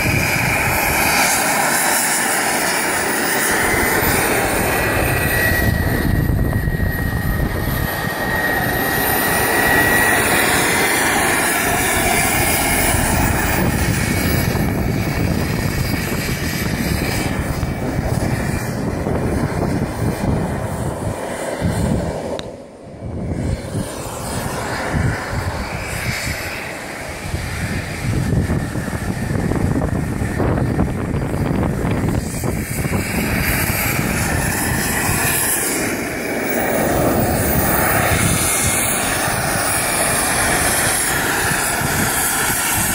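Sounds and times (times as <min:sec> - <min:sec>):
high turbine whine: 0:00.0 - 0:42.9
rush of exhaust: 0:00.0 - 0:42.9.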